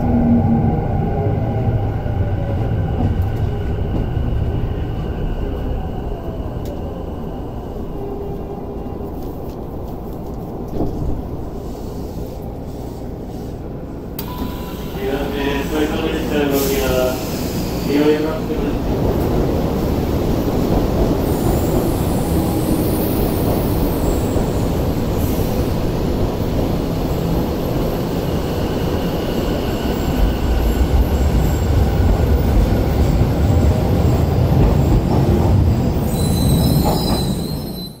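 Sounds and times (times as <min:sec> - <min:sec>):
electric train rumble: 0:00.0 - 0:38.0.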